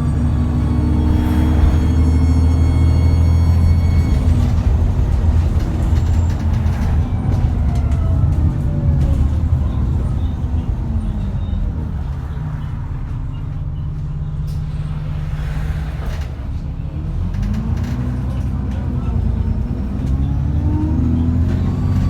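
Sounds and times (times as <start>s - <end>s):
bus diesel engine slowing: 0.0s - 22.0s.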